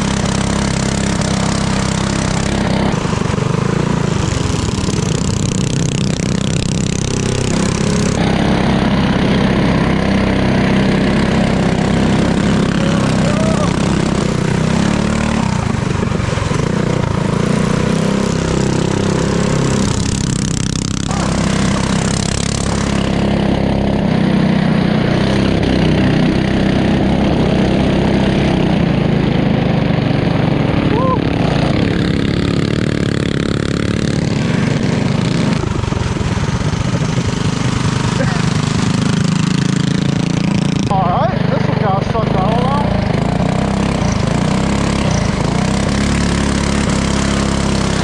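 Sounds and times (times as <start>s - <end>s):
small gas engine running: 0.0s - 48.0s.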